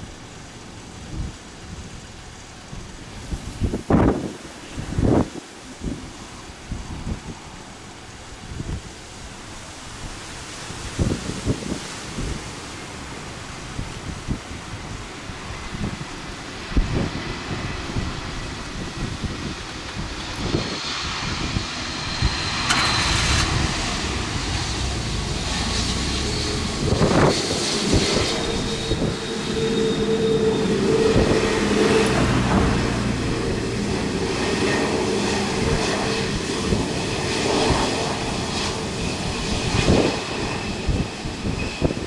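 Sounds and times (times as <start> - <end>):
jet engines humming with whine: 0.0 - 42.0
wind buffeting microphone: 0.8 - 42.0.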